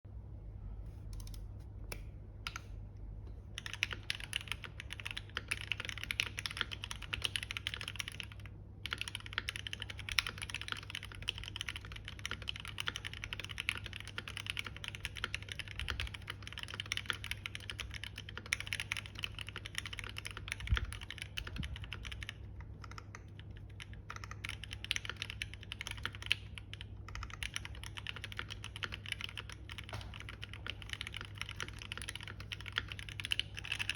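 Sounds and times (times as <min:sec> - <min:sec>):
keyboard keystrokes clattering: 0:03.6 - 0:33.9.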